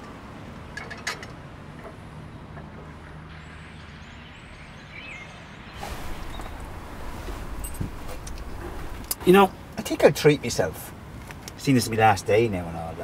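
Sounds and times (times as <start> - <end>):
street ambience rumble: 0.0 - 13.0.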